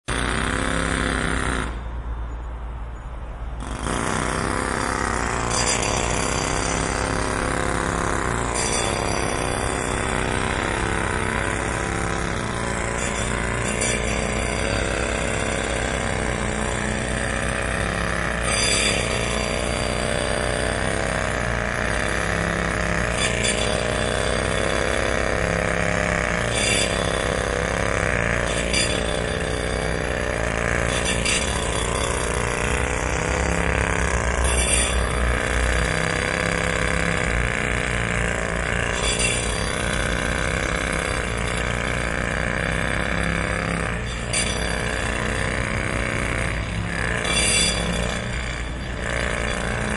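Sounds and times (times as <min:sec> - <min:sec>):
jackhammer hammering: 0:00.0 - 0:02.1, 0:03.5 - 0:49.9.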